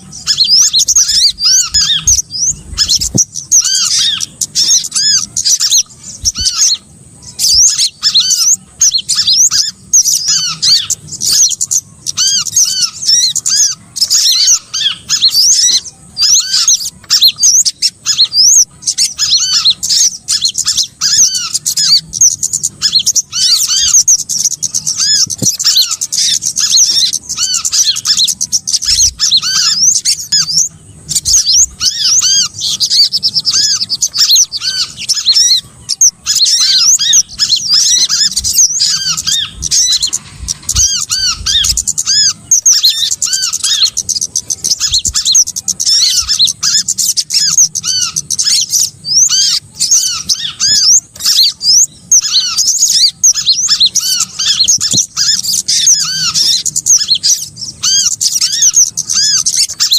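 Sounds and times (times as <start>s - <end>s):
songbird chirps: 0.0s - 59.9s.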